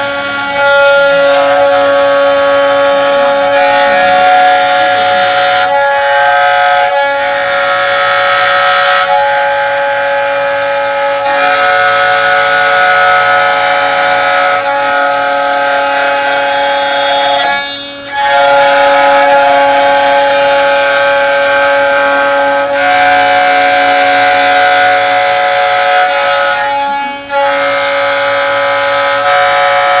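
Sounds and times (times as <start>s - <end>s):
cutter hissing through wood: 0.0s - 30.0s
router spindle whine: 0.0s - 30.0s.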